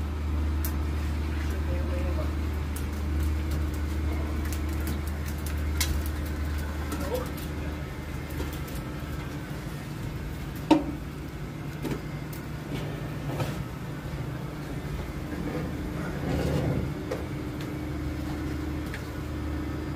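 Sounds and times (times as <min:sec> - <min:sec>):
ship machinery hum: 0:00.0 - 0:19.9.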